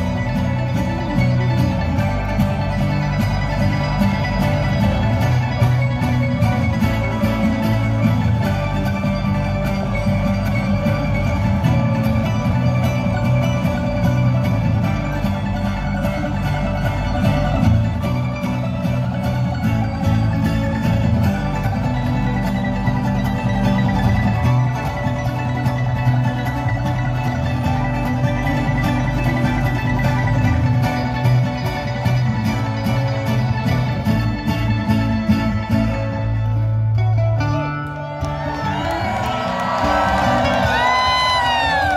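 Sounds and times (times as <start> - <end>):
acoustic guitars: 0.0 - 41.9
banjo picking: 0.0 - 41.9
upright bass: 0.0 - 41.9.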